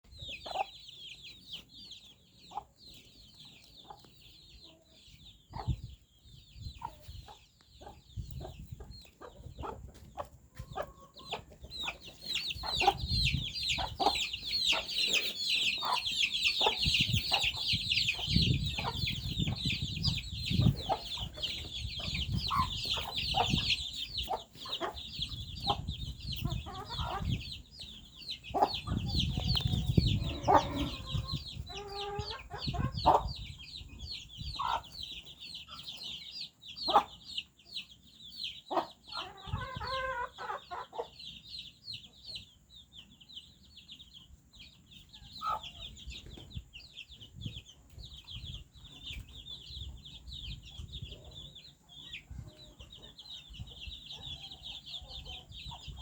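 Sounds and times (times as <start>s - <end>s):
chickens clucking: 0.1s - 56.0s
chicks peeping: 0.1s - 56.0s.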